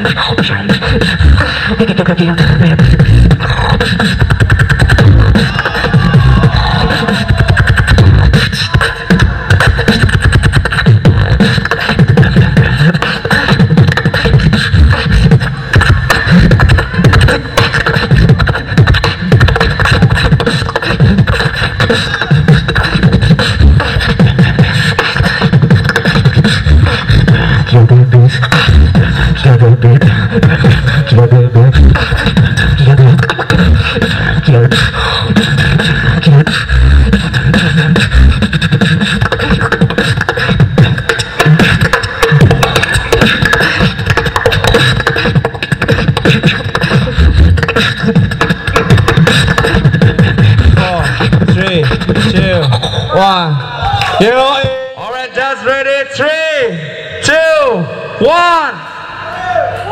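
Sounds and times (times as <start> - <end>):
heavy bass: 0.0 - 54.2
beatboxing into microphone: 0.0 - 59.9.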